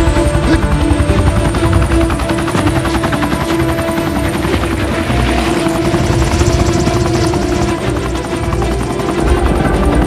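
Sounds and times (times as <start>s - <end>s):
helicopter engine whine: 0.0s - 10.0s
helicopter rotor chopping: 0.0s - 10.0s.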